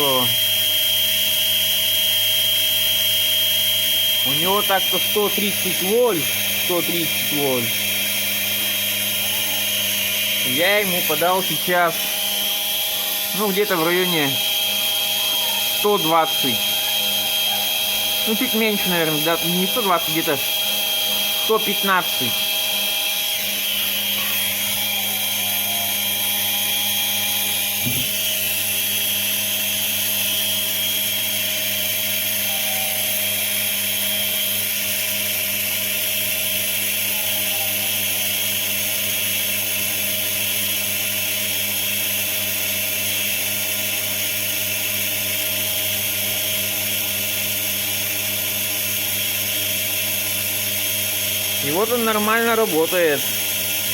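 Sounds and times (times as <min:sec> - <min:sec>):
electric motor humming: 0:00.0 - 0:53.9.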